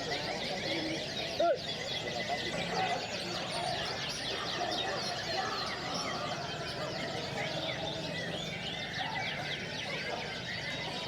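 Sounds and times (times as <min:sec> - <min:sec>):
murmur of crowd chatter: 0:00.0 - 0:11.0.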